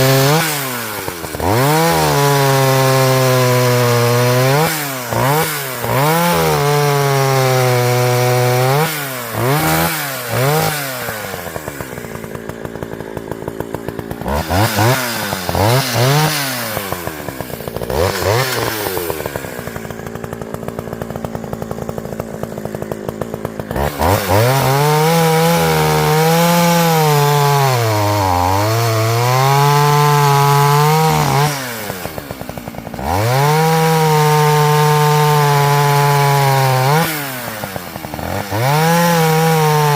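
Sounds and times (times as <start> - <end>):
chainsaw cutting wood: 0.0 - 39.9
chainsaw engine revving: 0.0 - 39.9.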